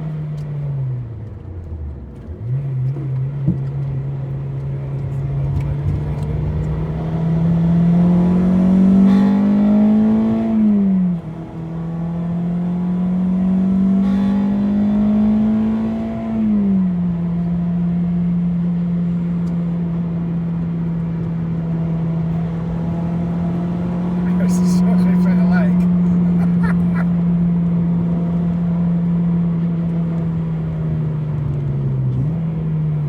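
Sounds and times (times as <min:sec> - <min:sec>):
car engine accelerating: 0:00.1 - 0:33.0.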